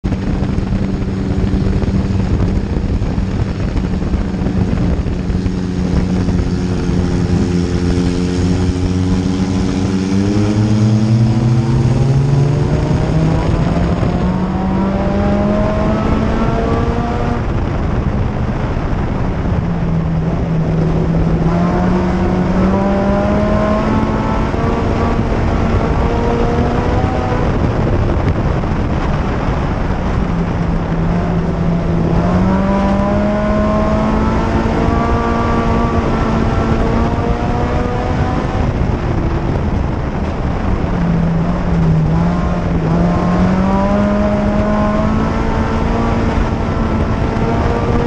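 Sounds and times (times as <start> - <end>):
race car engine from cockpit: 0.0 - 48.0
road and wind noise: 0.0 - 48.0.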